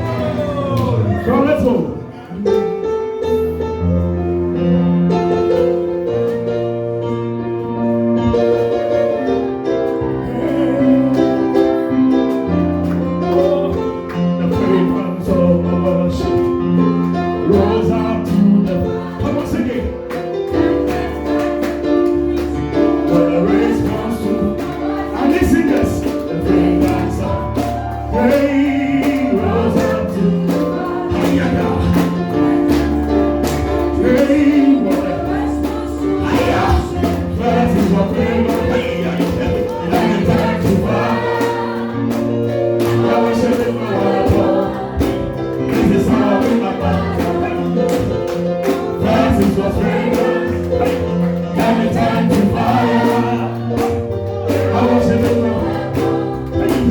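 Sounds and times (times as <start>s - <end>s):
people singing: 0.0s - 3.4s, 7.8s - 56.9s
band playing gospel music: 0.0s - 56.9s.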